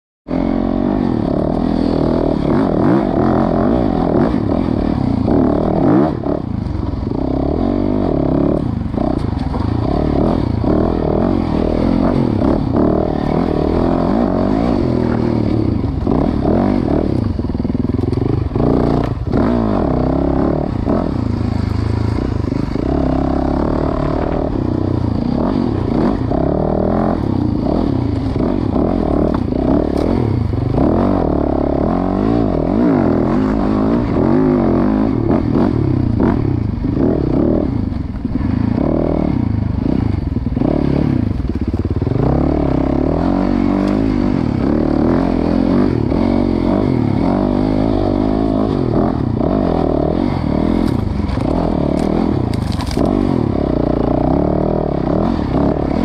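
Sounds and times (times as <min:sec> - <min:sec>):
dirt bike engine revving: 0:00.3 - 0:56.0.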